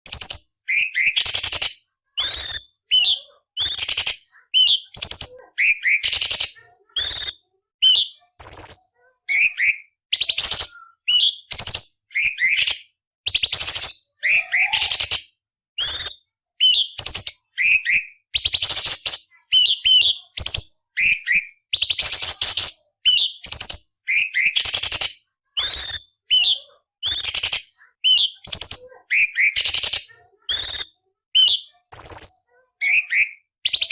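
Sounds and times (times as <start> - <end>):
bird singing rasping and whistles: 0.0 - 33.9.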